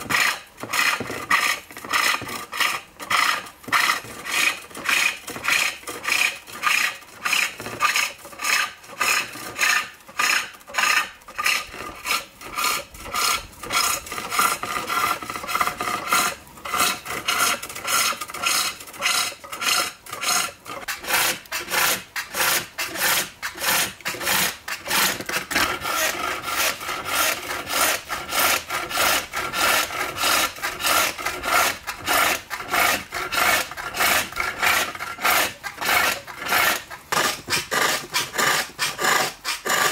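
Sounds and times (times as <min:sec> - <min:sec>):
hook tool scraping wood: 0:00.0 - 0:39.9.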